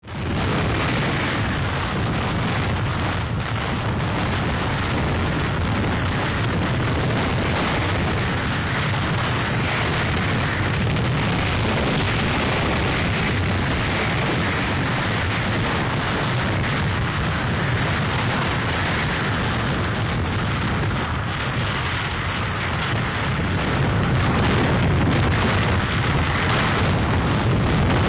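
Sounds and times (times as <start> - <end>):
strong wind against microphone: 0.0 - 28.0.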